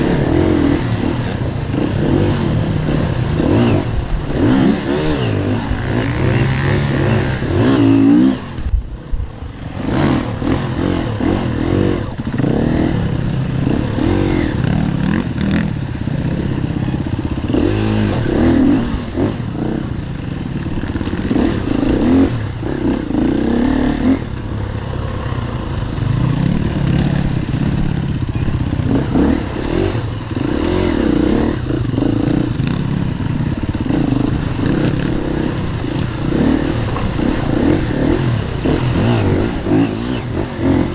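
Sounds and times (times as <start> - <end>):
dirt bike engine revving: 0.0 - 8.7, 9.4 - 40.9.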